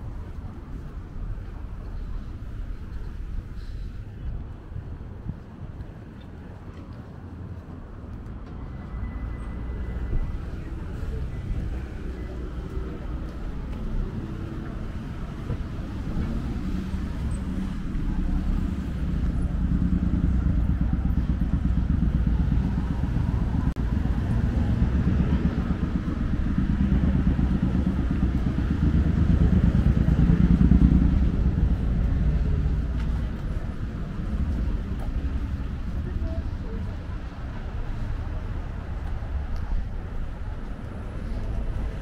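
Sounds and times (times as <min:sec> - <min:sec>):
vehicle engine rumble passing: 0:00.0 - 0:42.0.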